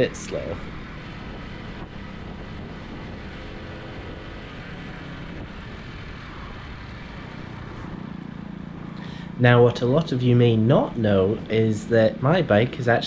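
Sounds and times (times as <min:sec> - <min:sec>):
motorcycle engine running: 0:00.0 - 0:13.0
wind rushing across microphone: 0:00.0 - 0:13.0.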